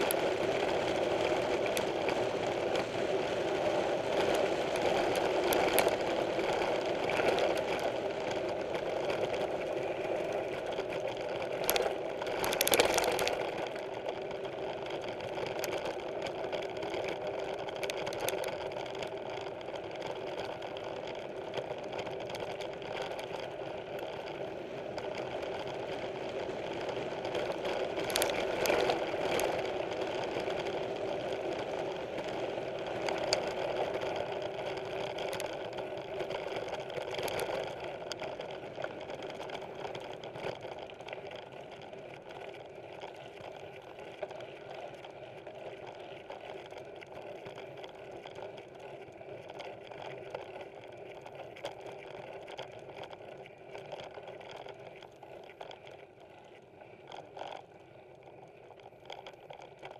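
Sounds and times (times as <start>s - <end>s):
bike rattling and knocking: 0.0s - 55.8s
mountain bike rolling buzz: 0.0s - 59.9s.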